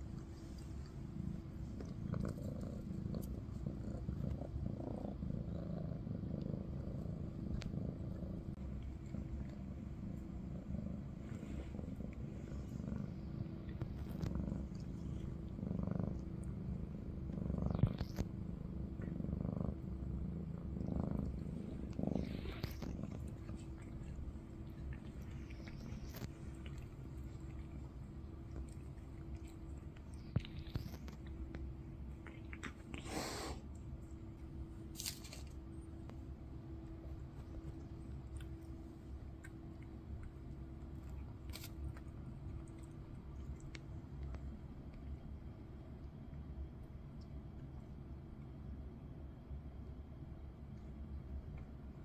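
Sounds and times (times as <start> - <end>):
soft licking: 0.0 - 48.6
cat purring: 0.0 - 52.0.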